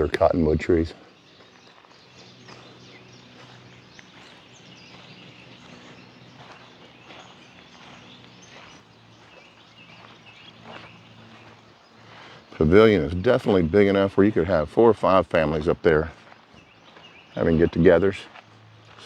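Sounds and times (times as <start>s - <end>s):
low steady background: 0.0s - 19.0s.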